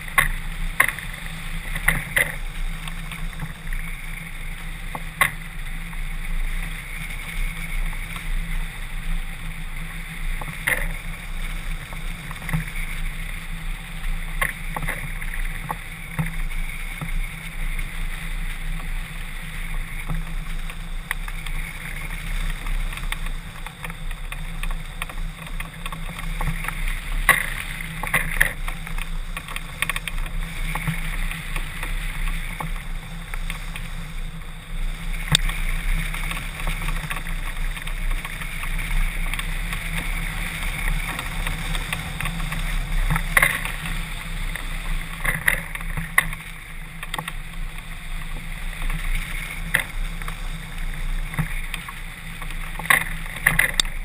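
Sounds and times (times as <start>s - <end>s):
sharp clicks and rattles: 0.0s - 54.0s
wind rushing over camera: 0.0s - 54.0s.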